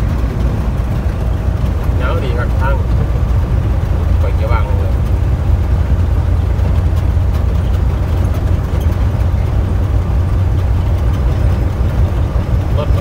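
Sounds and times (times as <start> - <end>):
engine and road noise in cab: 0.0 - 13.0.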